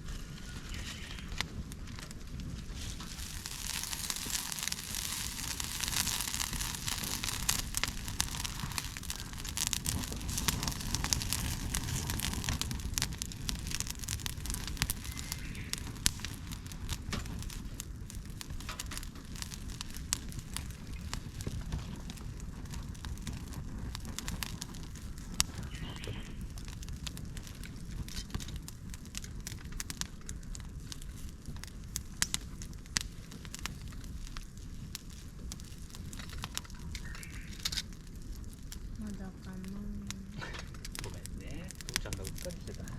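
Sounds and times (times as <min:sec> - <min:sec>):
campfire crackling and snapping: 0:00.0 - 0:42.9
low fire rumble: 0:00.0 - 0:42.9.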